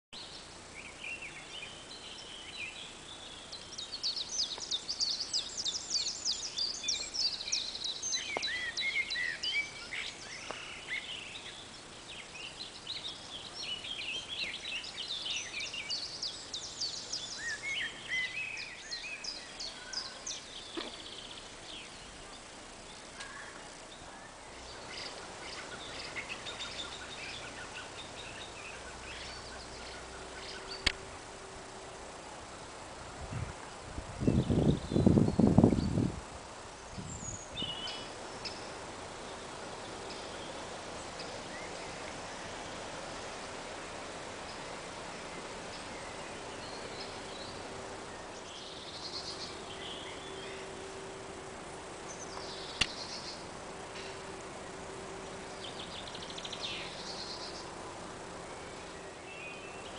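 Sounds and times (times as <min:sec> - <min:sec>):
faint outdoor hiss: 0:00.2 - 0:59.9
songbirds chirping and trilling: 0:00.2 - 0:59.9.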